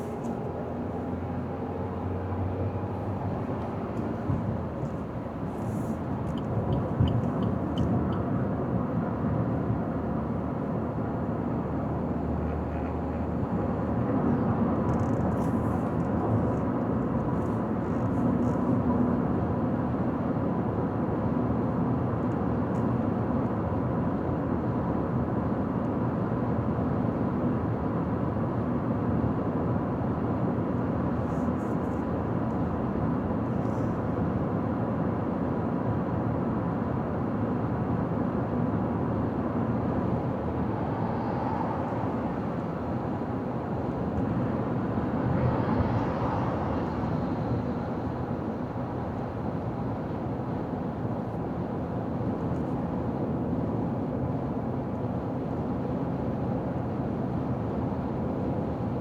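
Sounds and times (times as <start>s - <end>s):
car driving on highway: 0.0s - 59.0s.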